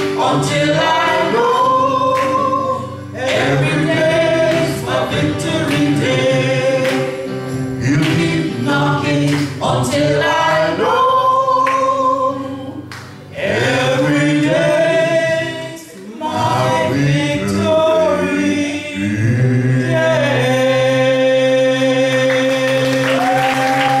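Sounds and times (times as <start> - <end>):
group singing gospel in harmony: 0.0 - 24.0.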